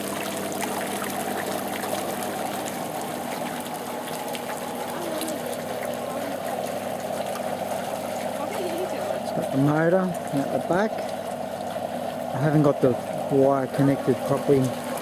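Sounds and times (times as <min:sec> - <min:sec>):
pump hum: 0:00.0 - 0:15.0
water churning in tub: 0:00.0 - 0:15.0.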